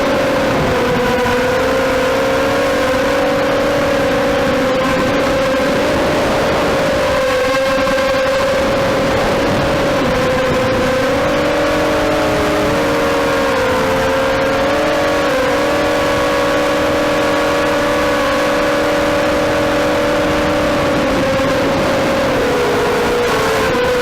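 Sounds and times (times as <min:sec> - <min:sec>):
constant rushing noise: 0:00.0 - 0:24.0
quadcopter propellers whining: 0:00.0 - 0:24.0.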